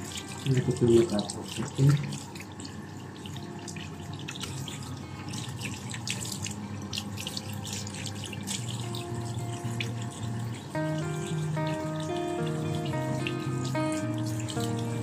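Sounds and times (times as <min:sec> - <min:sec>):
tap water running into sink: 0:00.0 - 0:15.0
water splashing on fur: 0:00.0 - 0:15.0.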